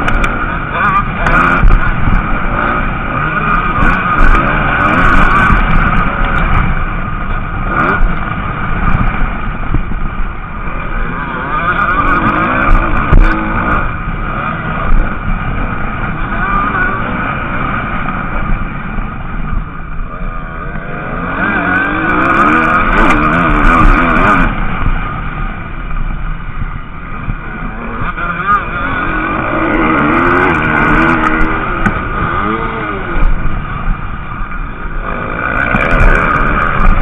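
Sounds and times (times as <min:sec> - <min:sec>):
motocross bikes revving past: 0:00.0 - 0:09.8, 0:10.4 - 0:25.6, 0:27.1 - 0:37.0.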